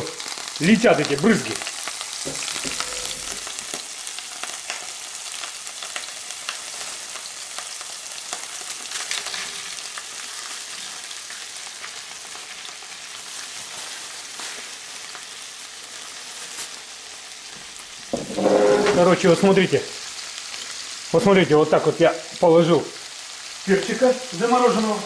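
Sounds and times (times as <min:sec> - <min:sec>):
pepper sizzling in oil: 0:00.0 - 0:25.0.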